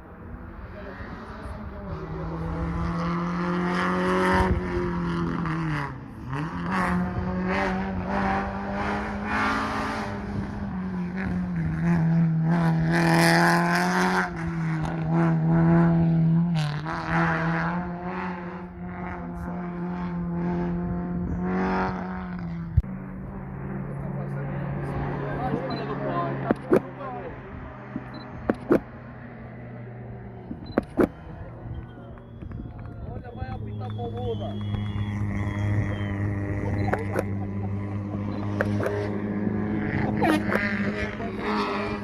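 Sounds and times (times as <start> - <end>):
race car engine revving: 0.0 - 42.0.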